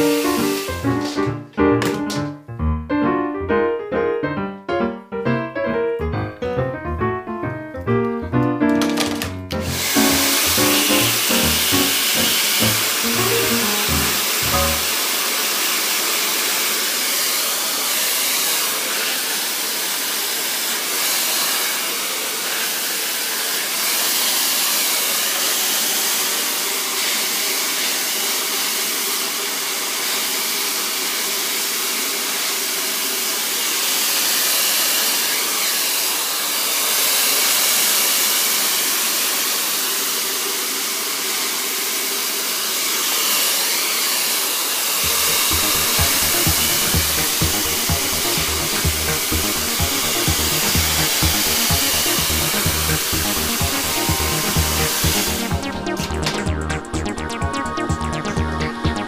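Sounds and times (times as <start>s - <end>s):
hair dryer blowing: 0.0s - 2.2s, 8.9s - 56.6s.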